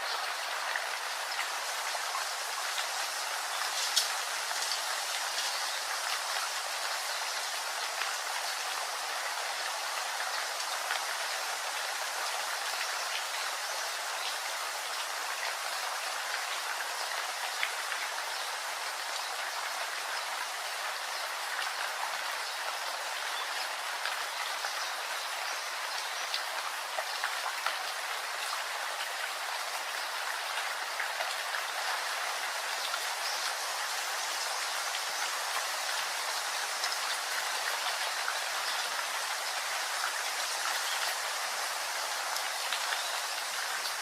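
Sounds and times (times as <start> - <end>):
raindrops ticking on surfaces: 0.0 - 44.0
steady rain hiss: 0.0 - 44.0.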